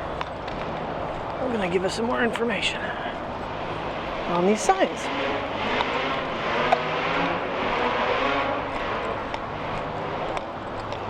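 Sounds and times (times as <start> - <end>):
traffic rushing past: 0.0 - 11.0.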